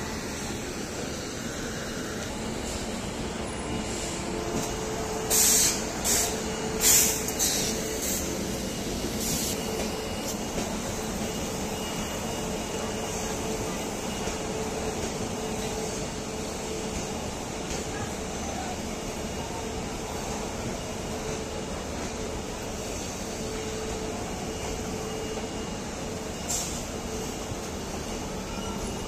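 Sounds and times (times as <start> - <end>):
train coaches humming: 0.0 - 29.0.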